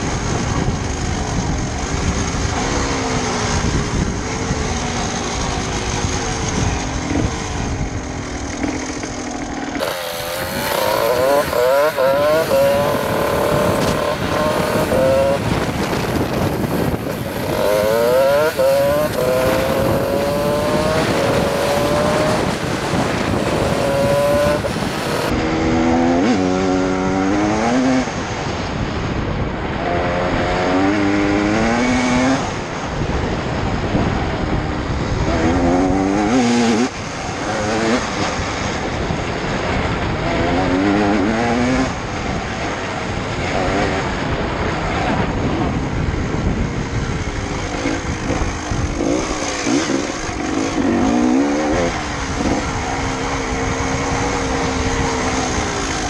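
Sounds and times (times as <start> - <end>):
motorcycle engine revving: 0.0 - 56.0
wind rushing over helmet: 0.0 - 56.0.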